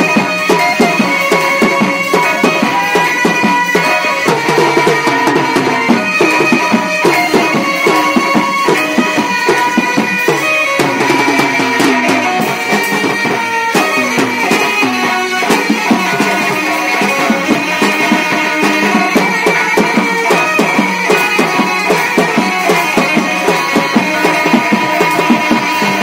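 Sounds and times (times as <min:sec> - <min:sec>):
rapid drumming: 0:00.0 - 0:26.0.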